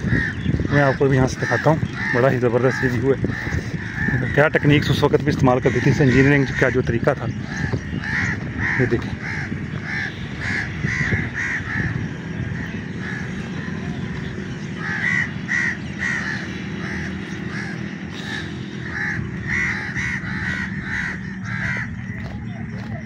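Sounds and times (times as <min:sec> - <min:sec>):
crows cawing: 0:00.0 - 0:23.0
low background rumble: 0:00.0 - 0:23.0.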